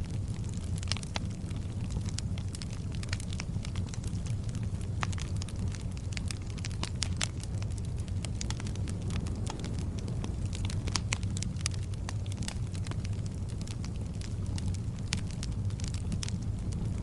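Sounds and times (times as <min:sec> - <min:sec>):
fire crackling: 0:00.0 - 0:17.0
low fire rumble: 0:00.0 - 0:17.0.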